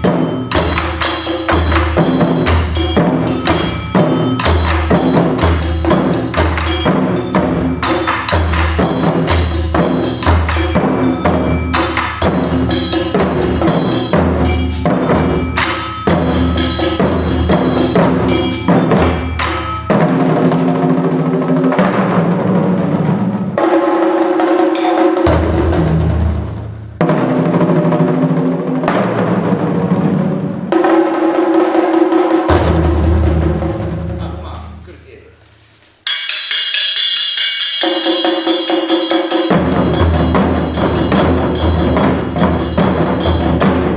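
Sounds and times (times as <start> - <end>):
taiko drum strikes: 0.0 - 34.8, 36.1 - 43.9
pitched accompaniment: 0.0 - 35.2, 36.0 - 43.9.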